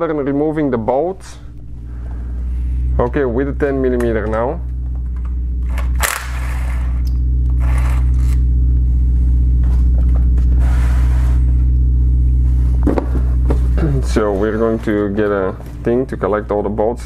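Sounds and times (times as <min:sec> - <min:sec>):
low machine hum with buzzing rattle: 0:00.0 - 0:17.0.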